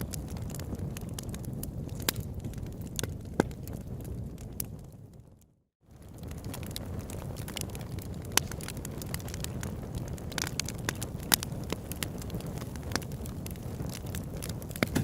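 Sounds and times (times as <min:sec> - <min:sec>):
burning wood crackling and popping: 0:00.0 - 0:15.0
low rush of flames: 0:00.0 - 0:15.0.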